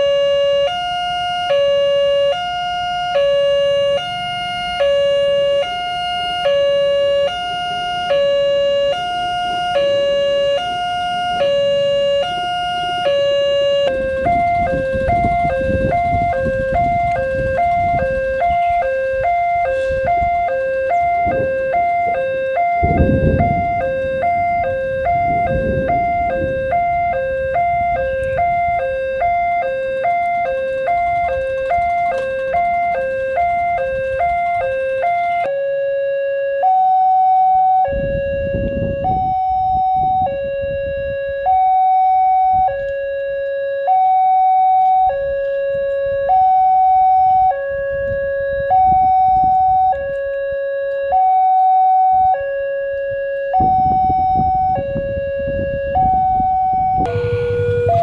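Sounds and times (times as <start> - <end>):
two-tone level-crossing siren: 0.0 - 58.0.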